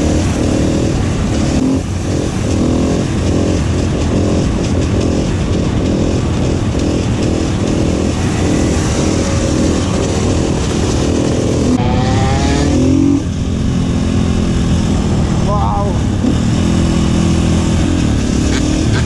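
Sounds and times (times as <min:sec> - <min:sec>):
motorcycle engine revving: 0:00.0 - 0:19.0
wind rush on microphone: 0:00.0 - 0:19.0.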